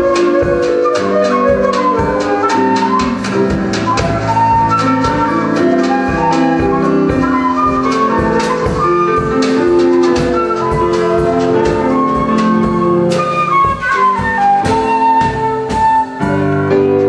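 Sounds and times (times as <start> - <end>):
drum kit beat: 0.0 - 17.0
flute melody: 0.0 - 17.0
piano accompaniment: 0.0 - 17.0.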